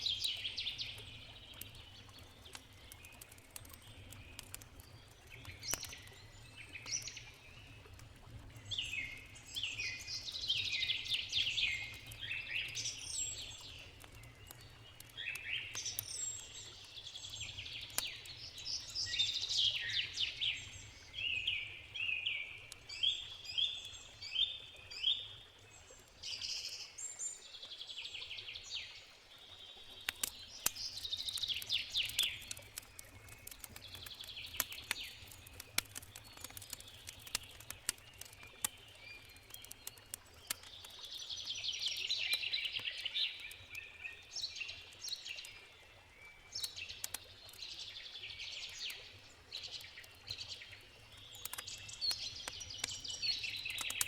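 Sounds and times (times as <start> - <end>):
campfire crackling: 0.0 - 27.2, 28.0 - 54.0
rushing water: 0.0 - 54.0
songbirds chirping: 0.0 - 54.0.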